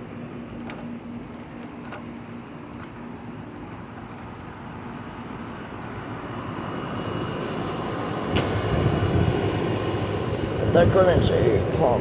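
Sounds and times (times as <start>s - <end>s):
air conditioner fans whooshing: 0.0s - 12.0s.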